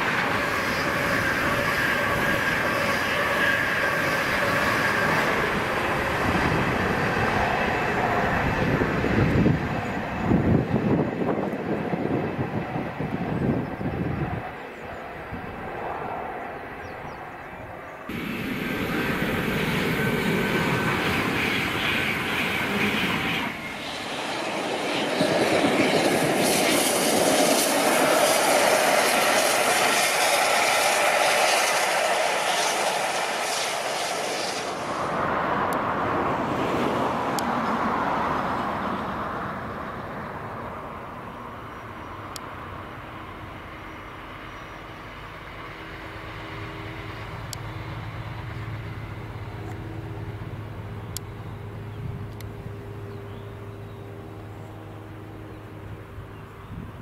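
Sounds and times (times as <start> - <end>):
diesel train engine hum: 0.0 - 57.0
high-speed train approaching: 0.0 - 57.0.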